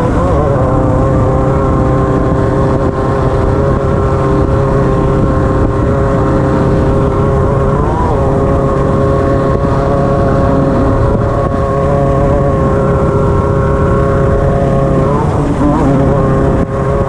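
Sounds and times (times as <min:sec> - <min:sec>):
race car engine running: 0:00.0 - 0:17.0.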